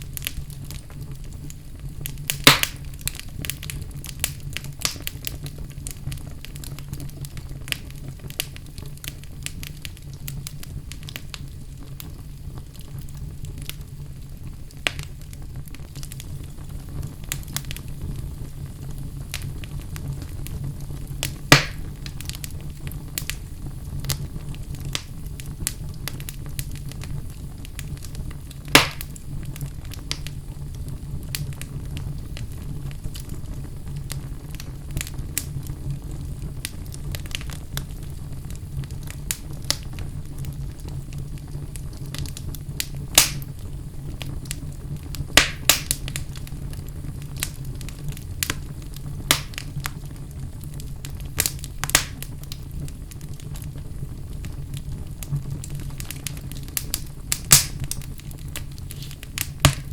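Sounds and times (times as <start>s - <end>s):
fire crackles: 0.0s - 59.9s
fire rumbling in a fireplace: 0.0s - 59.9s
loud fire pops: 0.0s - 59.9s.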